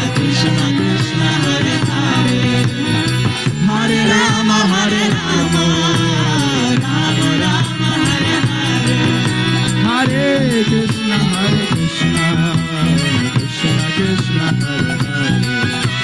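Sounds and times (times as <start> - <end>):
steady drone: 0.0 - 16.0
tabla drums: 0.0 - 16.0
voices singing: 0.0 - 16.0.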